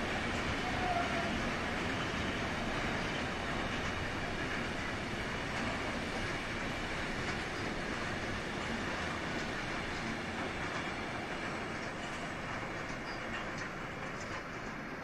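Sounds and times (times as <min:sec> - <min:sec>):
train wheels rolling on rail: 0:00.0 - 0:15.0.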